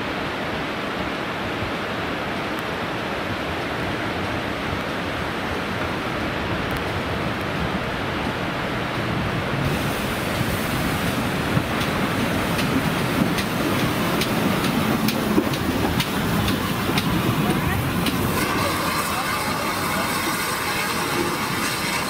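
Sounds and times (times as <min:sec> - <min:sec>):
train running past: 0:03.4 - 0:22.0.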